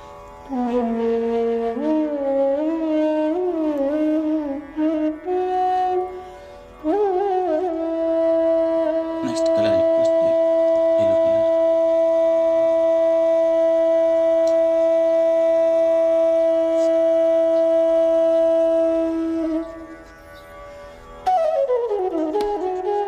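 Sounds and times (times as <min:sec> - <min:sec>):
faint drone: 0:00.0 - 0:23.0
wind instrument long note: 0:00.0 - 0:23.0.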